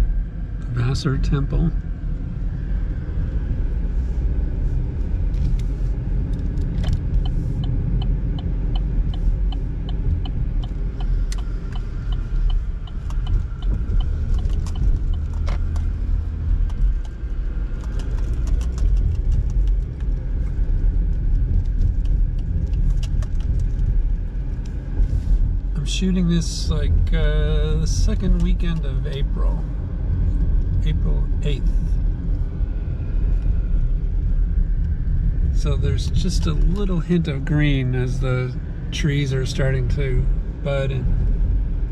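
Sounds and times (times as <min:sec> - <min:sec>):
car road and engine rumble: 0:00.0 - 0:41.9
turn signal ticking: 0:00.7 - 0:41.9.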